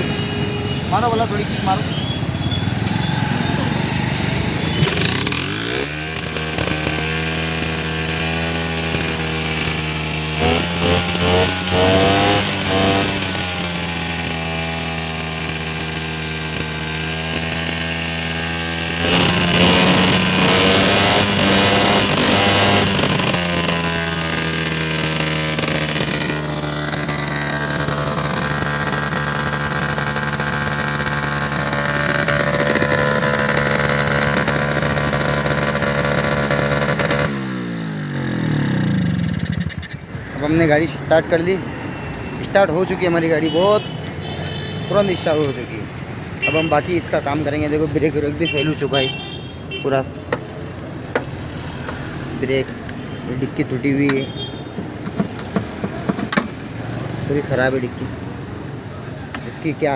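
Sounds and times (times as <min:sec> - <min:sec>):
two-stroke scooter engine: 0:00.0 - 0:59.9.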